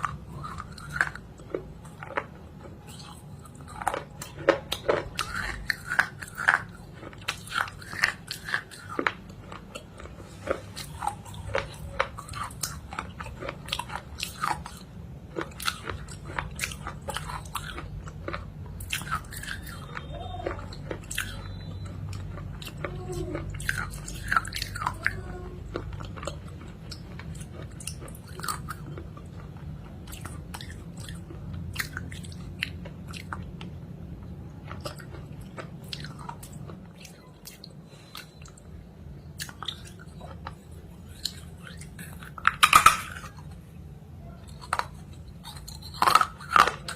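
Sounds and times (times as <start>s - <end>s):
crunchy food chewing: 0.0s - 46.9s.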